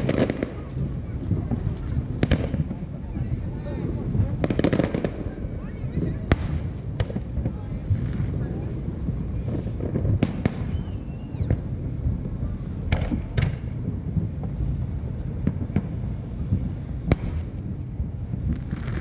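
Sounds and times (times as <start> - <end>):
fireworks bursting with sharp bangs: 0.0 - 19.0
steady low rumble: 0.0 - 19.0.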